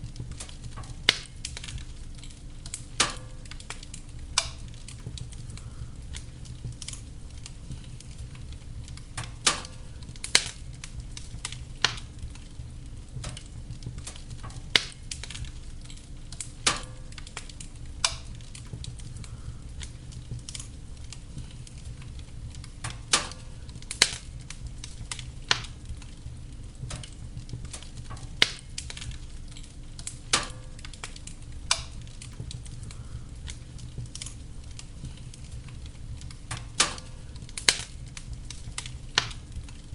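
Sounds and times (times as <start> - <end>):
burning logs popping: 0.0 - 39.9
fire crackling: 0.0 - 39.9
low rumble of flames: 0.0 - 39.9.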